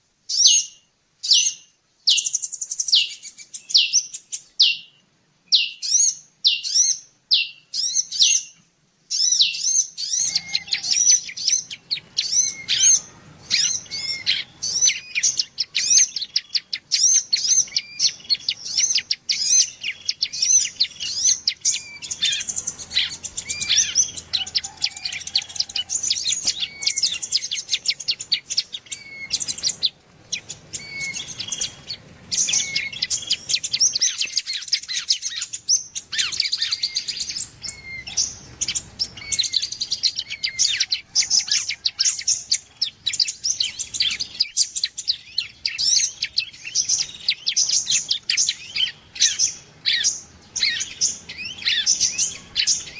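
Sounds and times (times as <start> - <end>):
rapid high bird chirps: 0.3 - 52.9.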